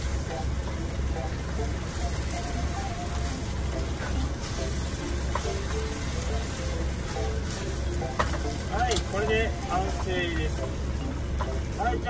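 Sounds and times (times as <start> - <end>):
chopsticks stirring: 0.0 - 12.0
low steady hum: 0.0 - 12.0
quiet background music: 0.0 - 12.0
stir-fry sizzling in frying pan: 0.0 - 12.0.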